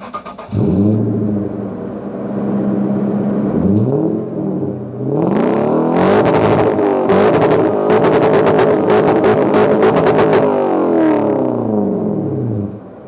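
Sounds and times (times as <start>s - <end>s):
engine exhaust revving: 0.1s - 13.0s.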